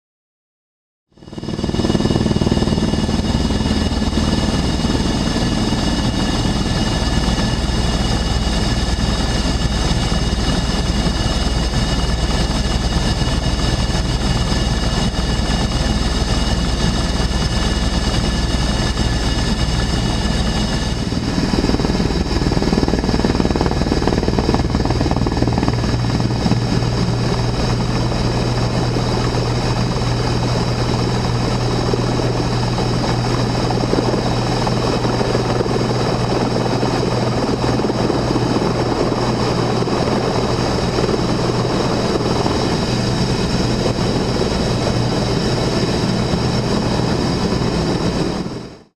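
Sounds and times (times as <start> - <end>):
helicopter drone: 1.1 - 48.9.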